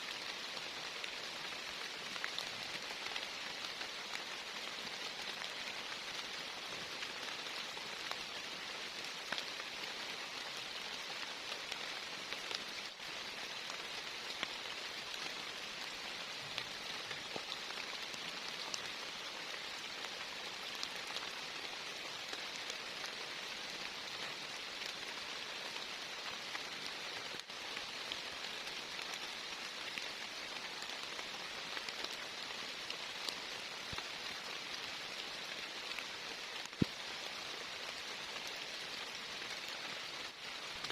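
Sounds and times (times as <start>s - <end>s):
heavy rain falling: 0.0s - 40.9s
sharp raindrop ticks: 0.2s - 40.9s.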